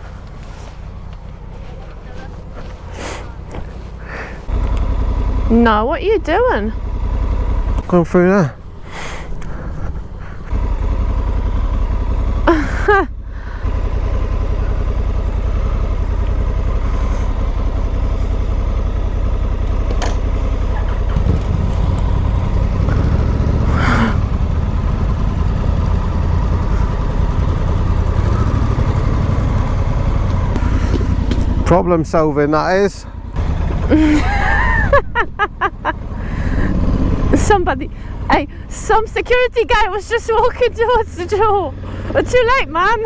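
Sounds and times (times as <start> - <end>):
motorcycle engine low rumble: 0.0 - 43.0.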